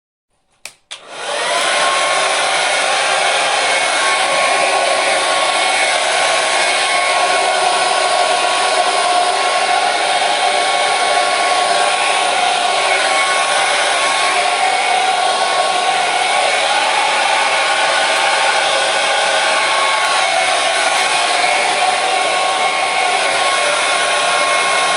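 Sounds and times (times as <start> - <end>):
hair dryer blowing: 0.6 - 24.9.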